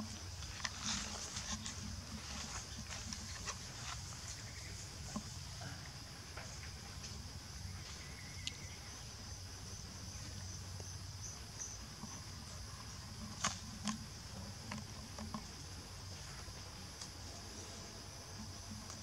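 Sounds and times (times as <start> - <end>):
high insect chorus: 0.0 - 19.0.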